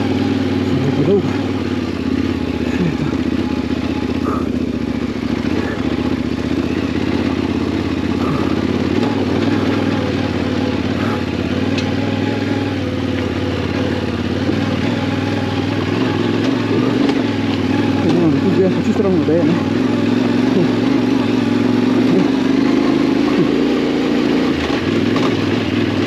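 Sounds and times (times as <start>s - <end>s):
motorcycle engine running steadily: 0.0s - 26.0s.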